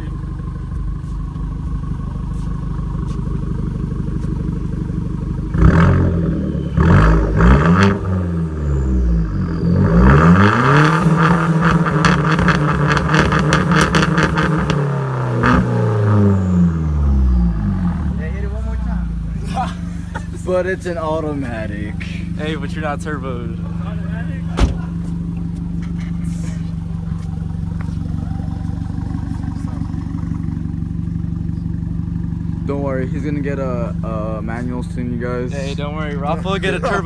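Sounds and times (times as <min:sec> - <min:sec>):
car engine idling and revving: 0:00.0 - 0:37.0
exhaust crackle: 0:00.0 - 0:37.0.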